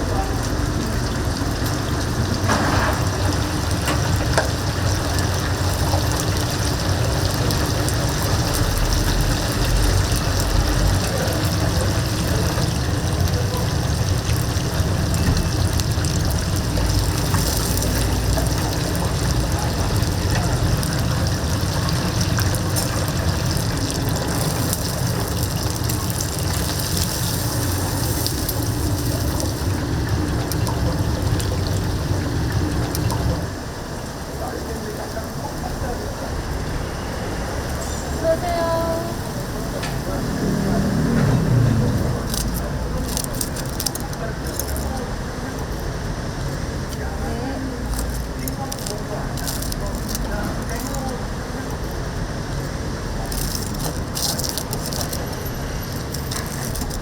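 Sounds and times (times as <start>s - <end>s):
oil sizzling in deep fryer: 0.0s - 57.0s.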